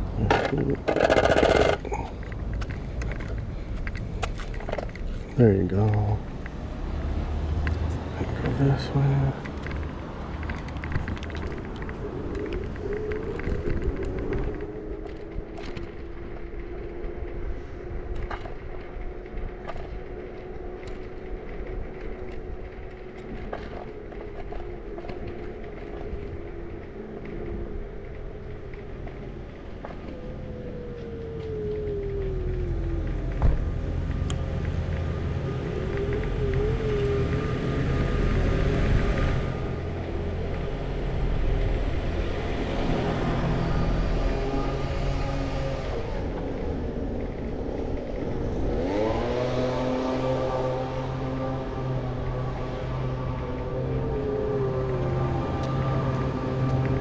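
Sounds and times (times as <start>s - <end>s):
wheels rolling over cracked asphalt: 0.0s - 57.0s
wind rumble on microphone: 0.0s - 57.0s
electric scooter motor whining: 0.2s - 1.9s, 10.4s - 57.0s.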